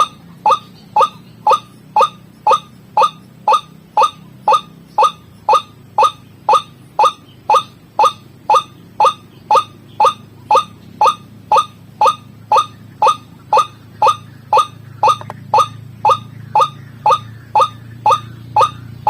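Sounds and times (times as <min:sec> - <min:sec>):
faint low hum: 0:00.0 - 0:19.0
waterhen calling: 0:00.0 - 0:19.0.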